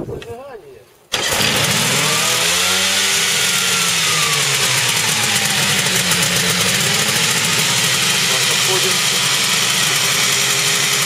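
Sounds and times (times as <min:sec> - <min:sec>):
helicopter engine idling: 0:01.2 - 0:11.0.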